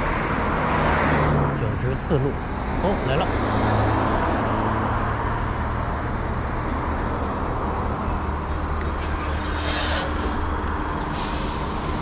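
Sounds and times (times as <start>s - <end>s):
bus engine rumble: 0.0s - 12.0s
road traffic noise: 0.0s - 12.0s.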